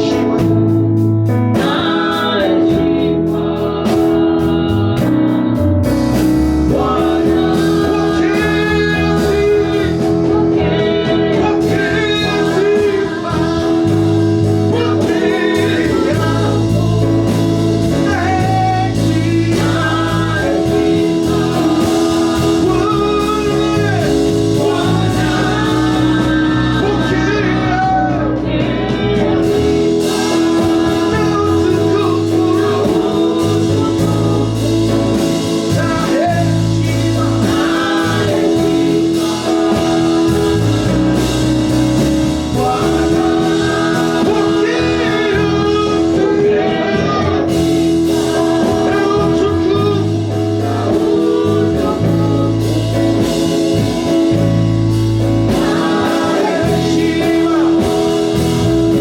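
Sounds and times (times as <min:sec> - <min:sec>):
person singing: 0:00.0 - 0:00.8, 0:06.6 - 0:54.5, 0:55.5 - 0:59.0
gospel band playing: 0:00.0 - 0:59.0.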